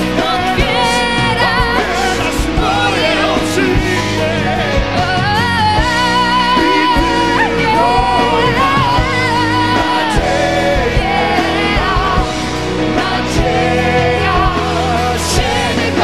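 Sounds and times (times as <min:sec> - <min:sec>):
live band playing: 0:00.0 - 0:16.0
man and woman singing duet: 0:00.0 - 0:16.0.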